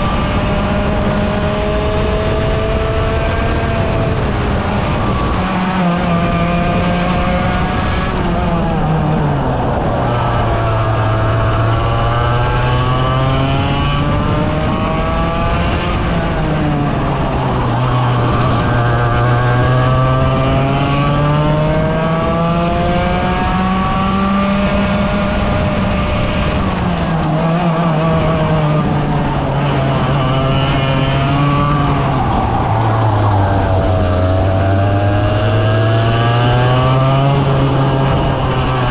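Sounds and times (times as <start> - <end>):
two-stroke kart engine revving: 0.0 - 38.9.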